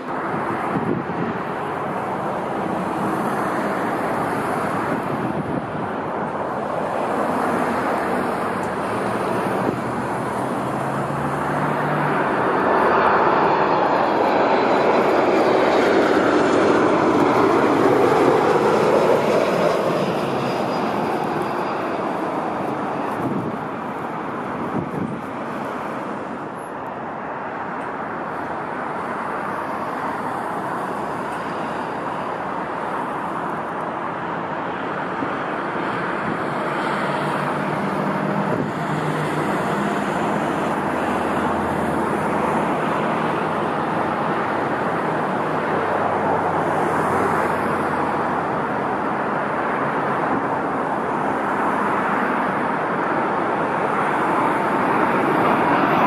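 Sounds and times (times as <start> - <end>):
jet airliner engines rushing: 0.0 - 56.0
road traffic: 0.0 - 56.0.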